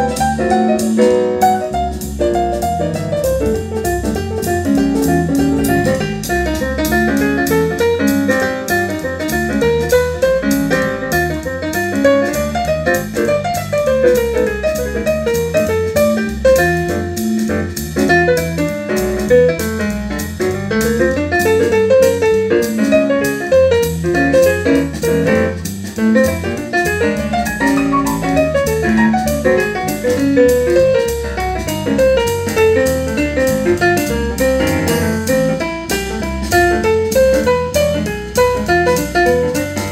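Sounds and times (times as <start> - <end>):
bass: 0.0 - 39.9
jazz piano music: 0.0 - 39.9
steady drum beat: 0.0 - 39.9.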